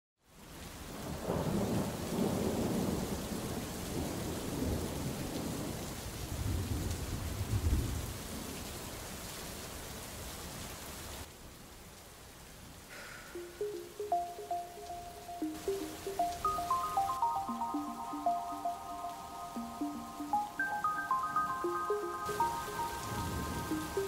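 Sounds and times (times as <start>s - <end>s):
steady rain: 0.2s - 24.0s.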